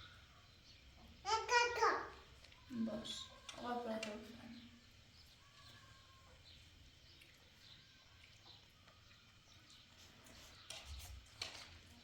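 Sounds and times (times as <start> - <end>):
small bird chirping: 0.0 - 11.1.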